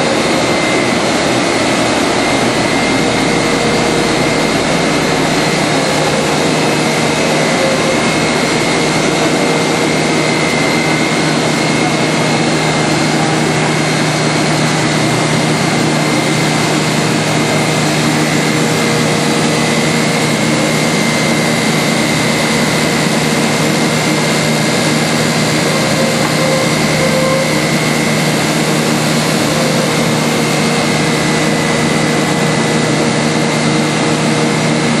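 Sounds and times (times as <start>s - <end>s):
jointer-planer running: 0.0s - 35.0s.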